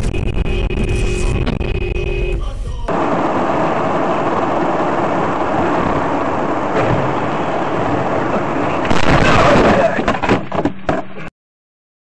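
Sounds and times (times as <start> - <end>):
low vehicle rumble: 0.0 - 11.3
road and wind noise: 0.0 - 11.3.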